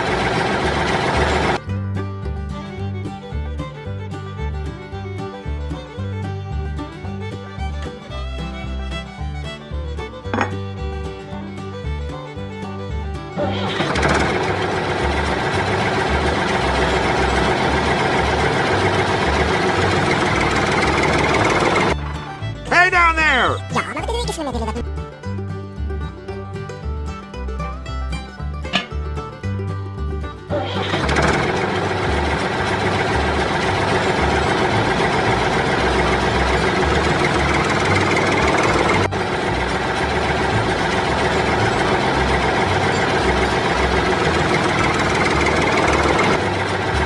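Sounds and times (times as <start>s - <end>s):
mini tractor engine running: 0.0s - 24.8s, 27.6s - 47.0s.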